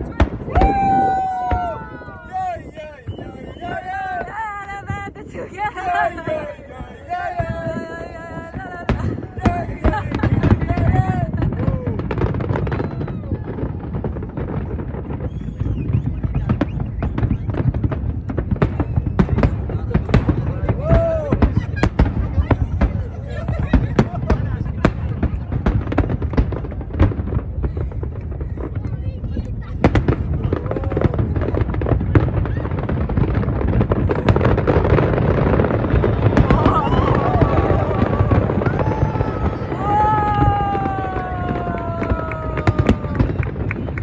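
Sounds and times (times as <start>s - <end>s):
crowd voices: 0.0s - 44.0s
fireworks bursting and crackling: 0.0s - 44.0s.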